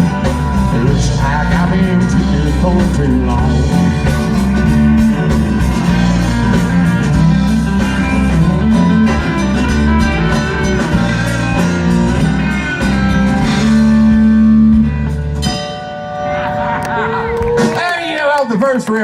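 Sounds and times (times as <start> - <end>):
electric guitar: 0.0 - 17.9
country-rock band playing: 0.0 - 19.0.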